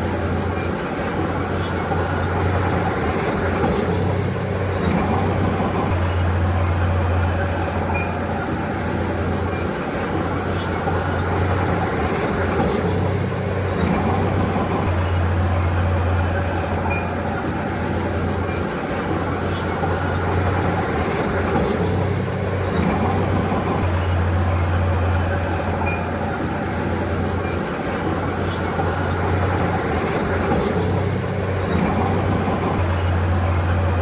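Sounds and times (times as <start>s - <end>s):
bulldozer diesel engine humming: 0.0s - 34.0s.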